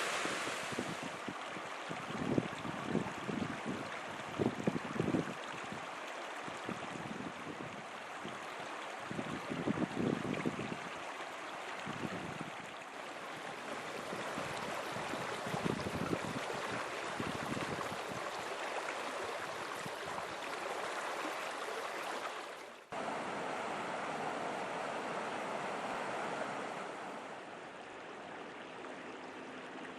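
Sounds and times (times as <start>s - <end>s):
water rushing: 0.0s - 29.9s.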